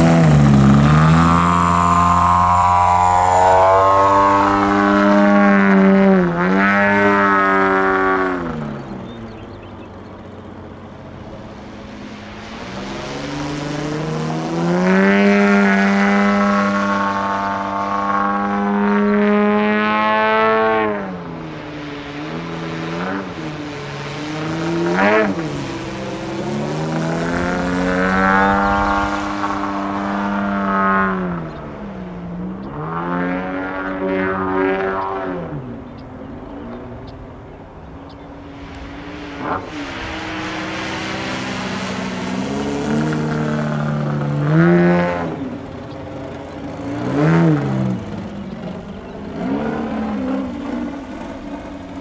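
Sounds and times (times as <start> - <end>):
model plane engine and propeller: 0.0 - 52.0.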